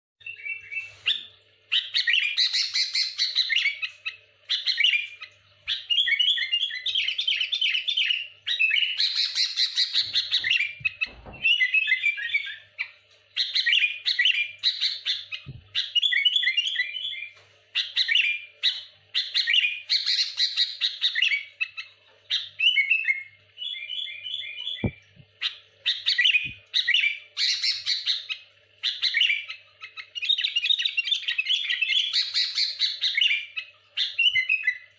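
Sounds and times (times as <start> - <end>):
bird singing rapid chirps: 0.2 - 34.9.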